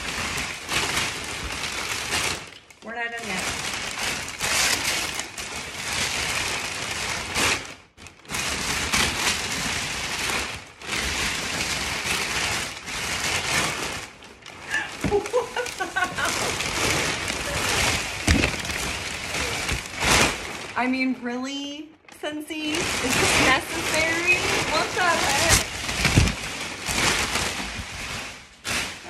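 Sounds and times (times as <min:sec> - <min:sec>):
packing paper rustling and crinkling: 0:00.0 - 0:29.0.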